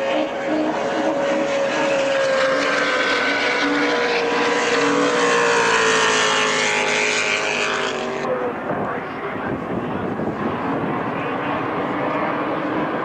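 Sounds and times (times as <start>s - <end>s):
powerboat engine at high revs: 0.0s - 13.0s.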